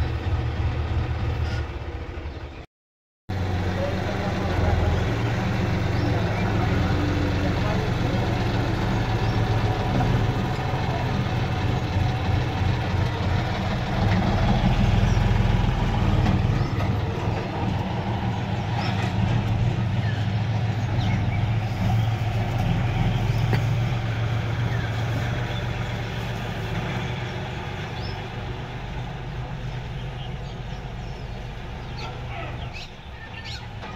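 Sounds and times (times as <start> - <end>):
tractor diesel engine running: 0.0 - 2.6, 3.3 - 33.9.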